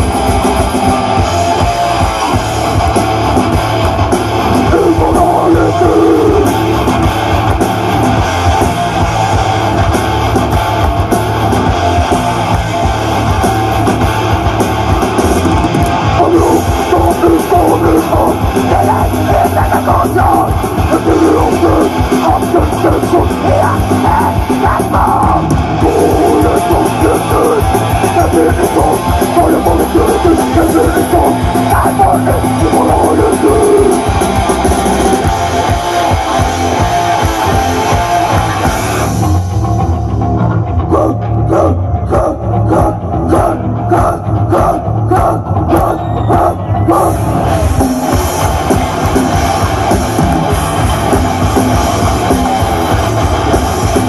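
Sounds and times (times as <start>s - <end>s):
live heavy metal band: 0.0s - 54.0s.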